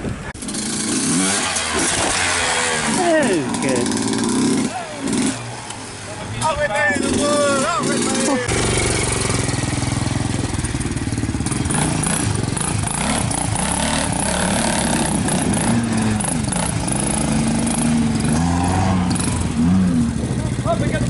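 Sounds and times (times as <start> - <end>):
engines revving: 0.4 - 21.0.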